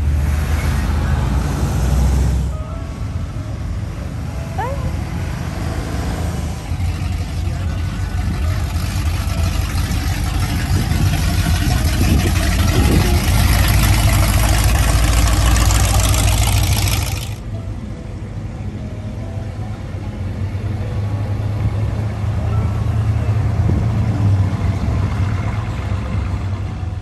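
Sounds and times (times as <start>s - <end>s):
car engine rumbling past: 0.0s - 17.6s, 20.3s - 27.0s
pickup truck engine rumble: 0.0s - 27.0s.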